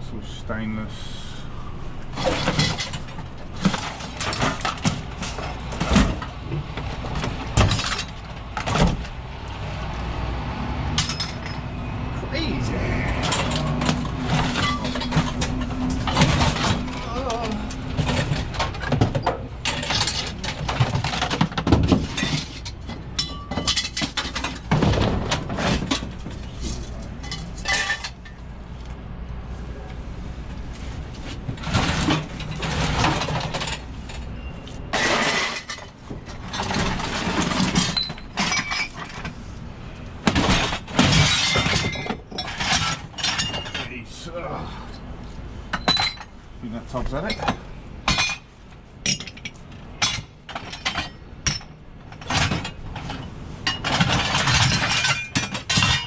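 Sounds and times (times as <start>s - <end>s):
scrap metal clanking and crashing: 2.0s - 9.2s, 10.8s - 11.8s, 12.4s - 28.6s, 30.8s - 56.0s.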